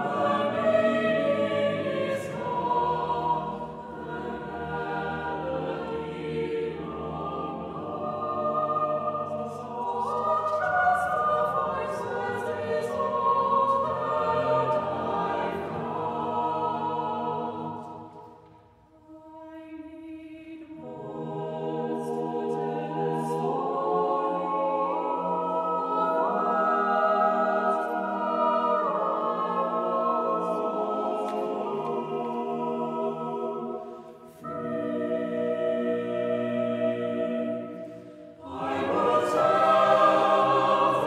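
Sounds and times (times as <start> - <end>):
choir singing sustained chords: 0.0 - 41.0.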